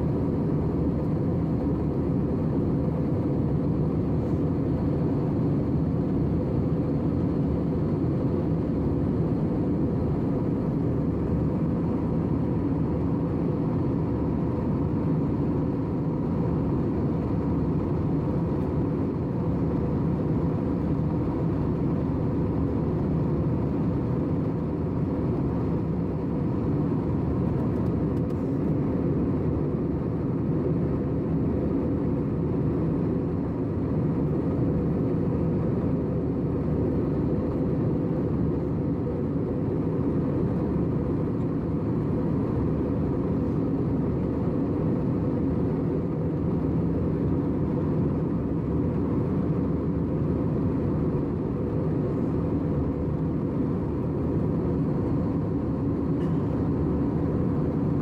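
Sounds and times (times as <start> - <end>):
airliner engine and airflow rumble: 0.0 - 58.0.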